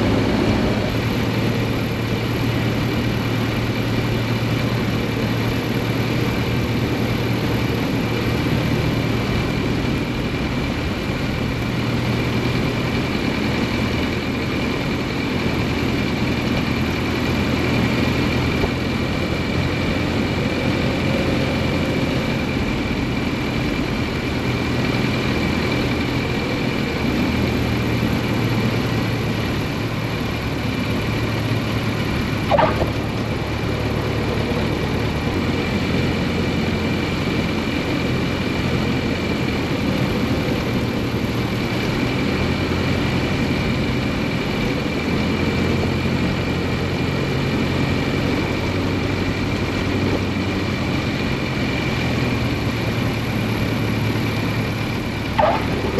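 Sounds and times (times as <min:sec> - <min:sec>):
light aircraft engine drone: 0:00.0 - 0:55.9.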